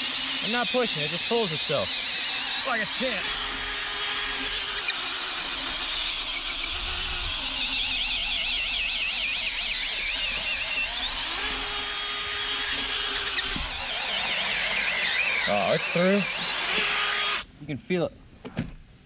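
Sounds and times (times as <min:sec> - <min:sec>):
power drill boring into wood: 0:00.0 - 0:17.5.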